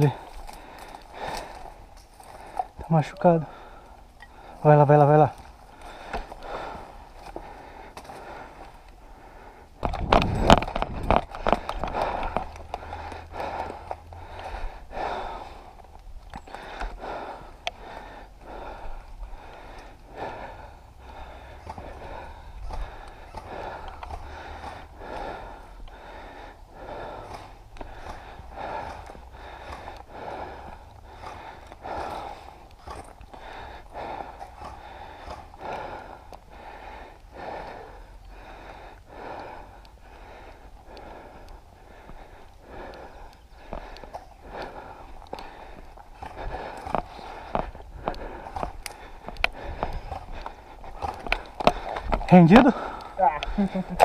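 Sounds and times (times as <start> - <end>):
person breathing hard: 0.0 - 54.0.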